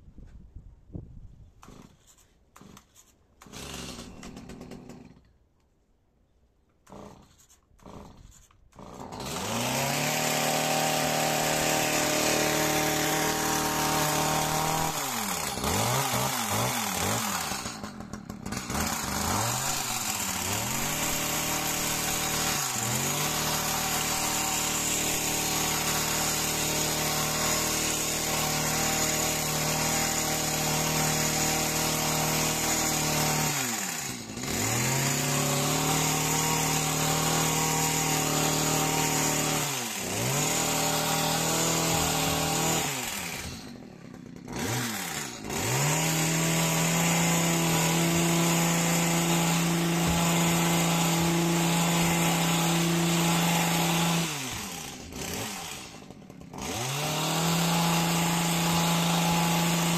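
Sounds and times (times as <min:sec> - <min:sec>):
chainsaw running at high revs: 0:01.6 - 0:05.2, 0:06.9 - 0:59.9.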